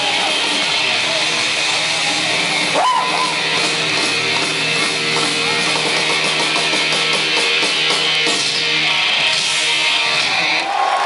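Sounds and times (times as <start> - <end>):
heavy metal band playing live: 0.0 - 11.0.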